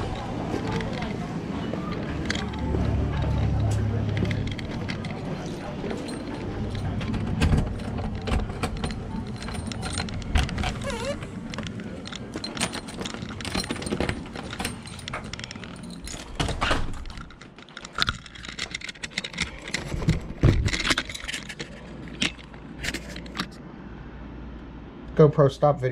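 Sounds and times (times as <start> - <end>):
keys jangling: 0.0 - 23.5.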